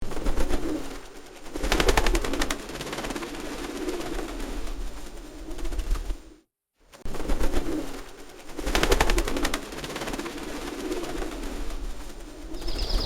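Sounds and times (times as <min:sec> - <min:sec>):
pigeon wings flapping: 0:00.0 - 0:13.0.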